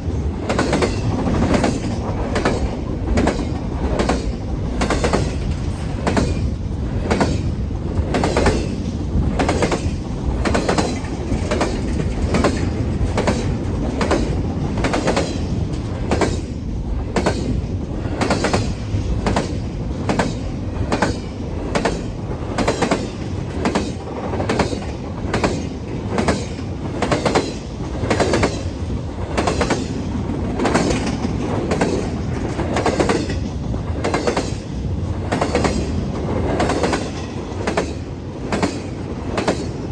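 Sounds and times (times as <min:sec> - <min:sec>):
low train rumble: 0:00.0 - 0:39.9
train wheels clacking over rails: 0:00.0 - 0:39.9.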